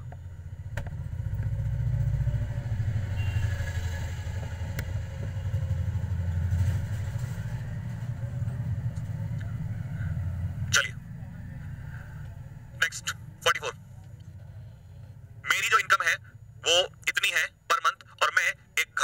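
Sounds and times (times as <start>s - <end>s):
pulsing motor rumble: 0.0s - 15.5s.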